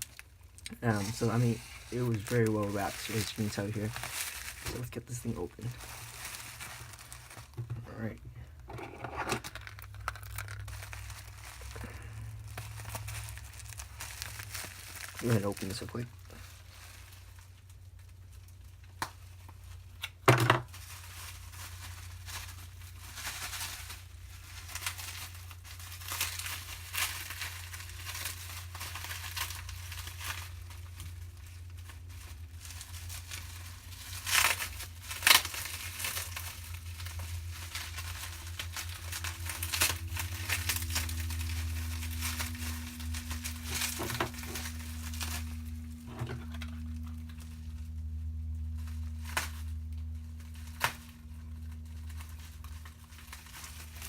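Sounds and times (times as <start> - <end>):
packaging crinkling and tearing: 0.0 - 8.7, 9.4 - 54.0
steady low hum: 0.0 - 54.0.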